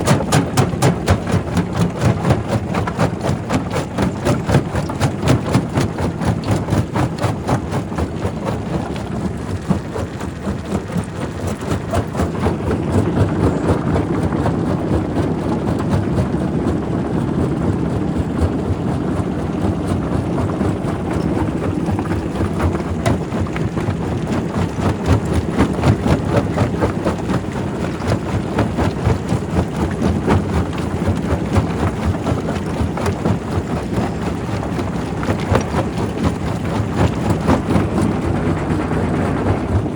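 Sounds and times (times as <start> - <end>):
rock crusher rumbling: 0.0 - 39.9.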